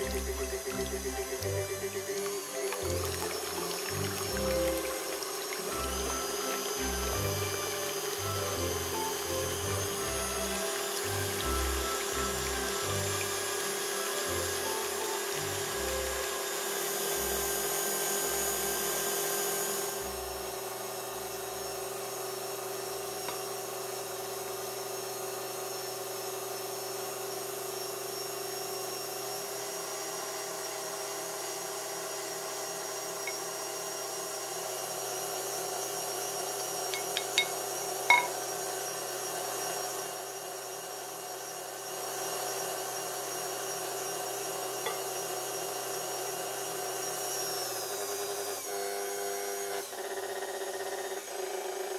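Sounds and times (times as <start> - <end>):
stand mixer motor whining: 0.0 - 51.9.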